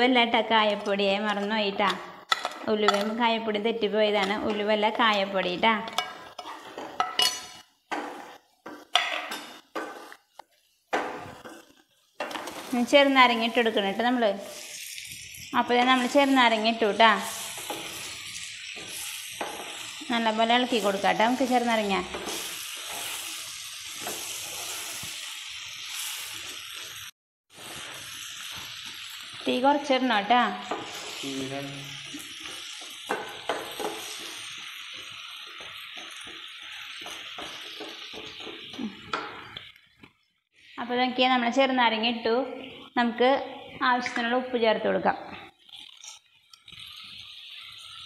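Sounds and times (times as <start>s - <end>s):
food sizzling in oil: 0.0s - 48.0s.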